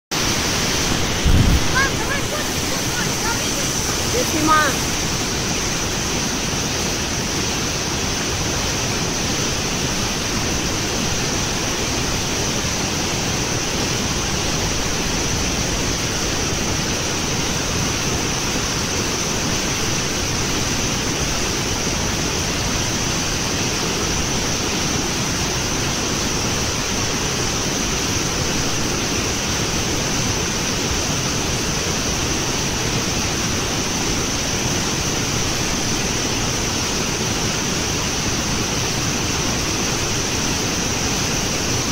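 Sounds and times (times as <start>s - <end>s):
water rushing over a spillway: 0.1s - 41.9s.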